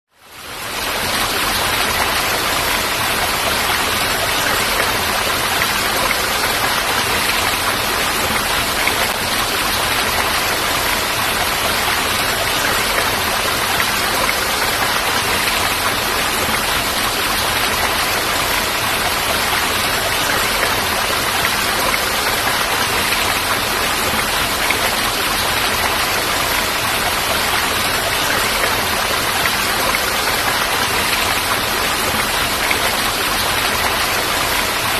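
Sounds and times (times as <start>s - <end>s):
falling water rushing: 0.2s - 34.9s.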